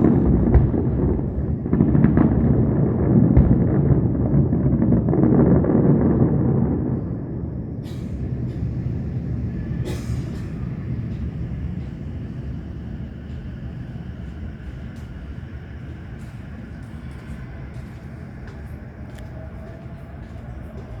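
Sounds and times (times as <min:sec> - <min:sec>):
low rumble of fireworks: 0:00.0 - 0:21.0.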